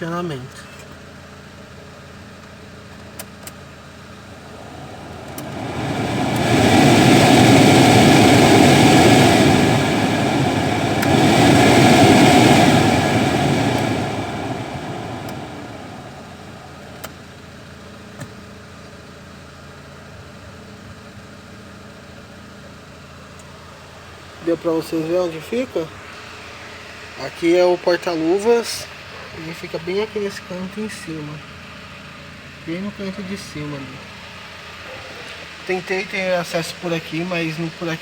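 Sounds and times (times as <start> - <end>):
car engine idling: 0.7 - 38.0
blower fan rushing air: 3.6 - 38.0.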